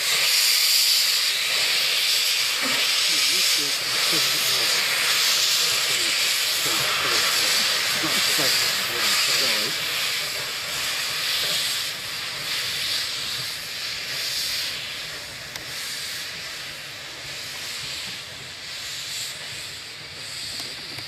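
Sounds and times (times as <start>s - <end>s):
steam hissing: 0.0s - 21.0s
steam locomotive chuffing: 0.0s - 21.0s.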